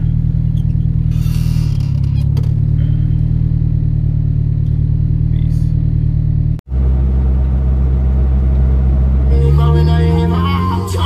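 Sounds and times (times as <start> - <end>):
car engine running: 0.0 - 11.0
low engine drone while driving: 0.0 - 11.0.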